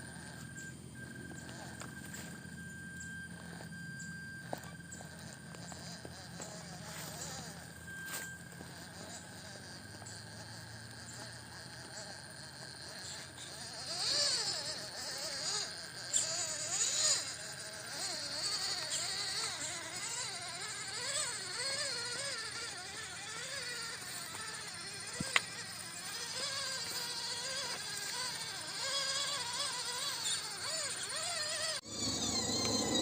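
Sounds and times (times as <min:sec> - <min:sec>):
electric motor and gearbox whining: 0:00.0 - 0:33.0.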